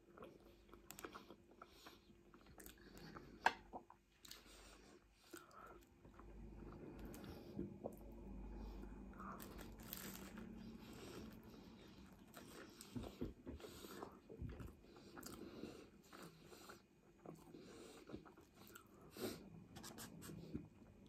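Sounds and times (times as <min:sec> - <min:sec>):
person chewing wetly: 0:00.0 - 0:19.2.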